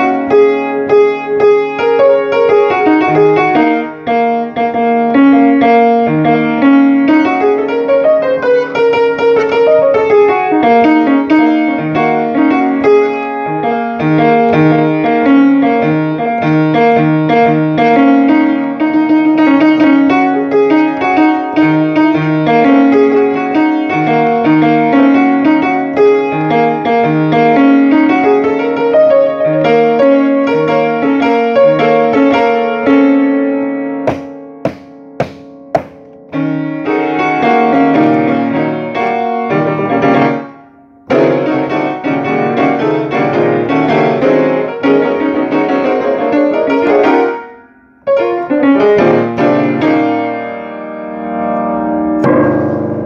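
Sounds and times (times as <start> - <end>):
solo acoustic piano: 0.0 - 53.0.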